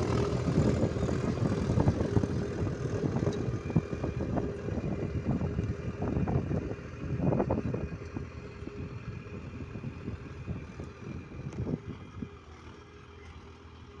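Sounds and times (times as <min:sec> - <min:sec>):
wind on microphone: 0:00.0 - 0:12.4
tractor diesel engine running: 0:00.0 - 0:14.0.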